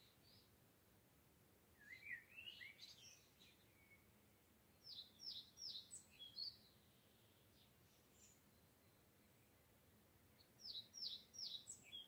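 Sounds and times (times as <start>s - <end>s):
songbird singing: 0.0s - 0.7s, 1.7s - 12.0s.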